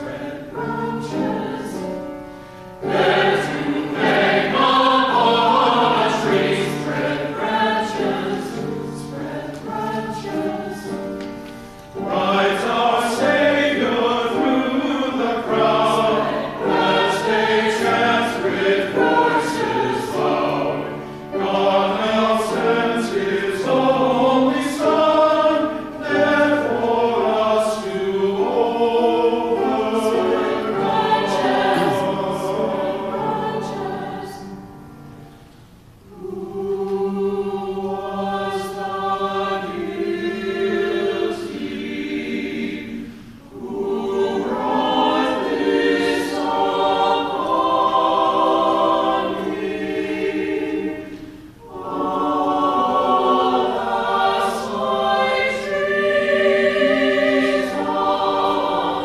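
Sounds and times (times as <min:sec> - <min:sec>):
mixed choir singing: 0:00.0 - 0:35.4, 0:36.0 - 0:59.0.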